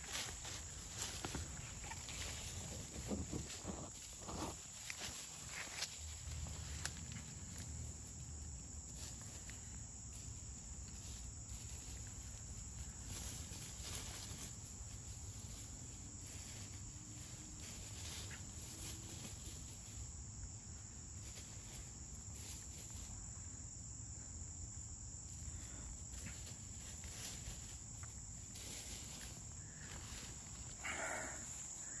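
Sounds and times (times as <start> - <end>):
hens rustling in dry leaves: 0.0 - 23.3, 25.3 - 32.0
insects trilling: 0.0 - 32.0.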